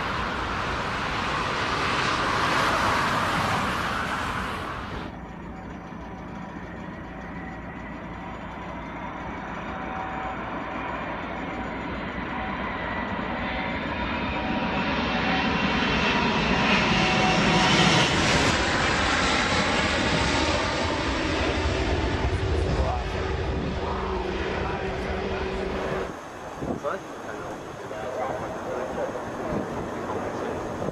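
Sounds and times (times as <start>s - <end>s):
aircraft engine whine: 0.0s - 30.9s.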